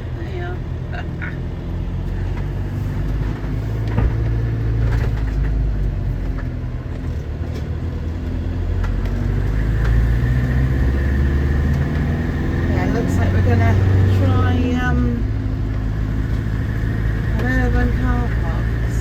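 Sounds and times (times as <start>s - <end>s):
engine and road noise hum: 0.0s - 19.0s.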